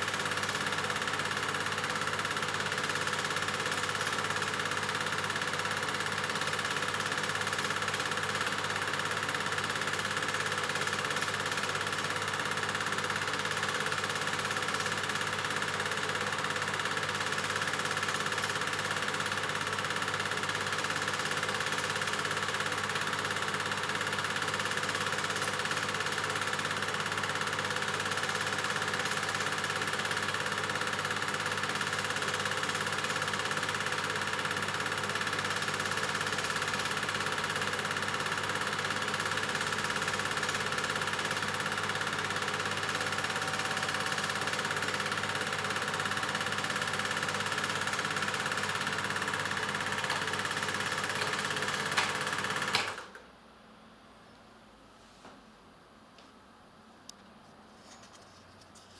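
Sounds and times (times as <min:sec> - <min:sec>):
film projector whirring: 0:00.0 - 0:53.4.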